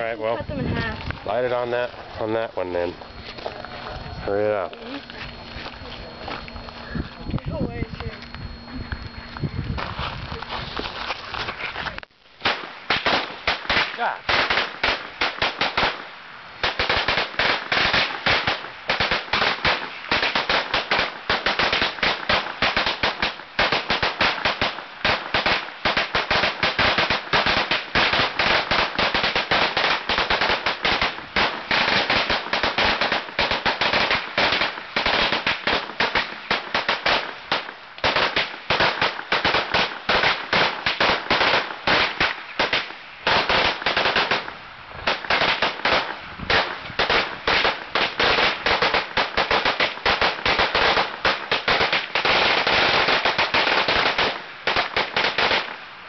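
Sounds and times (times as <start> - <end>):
firecrackers banging: 0.0 - 55.8.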